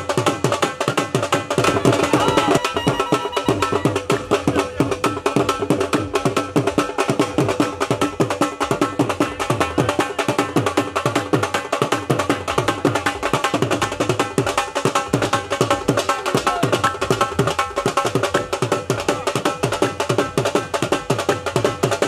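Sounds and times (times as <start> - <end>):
fast drumming: 0.0 - 22.0.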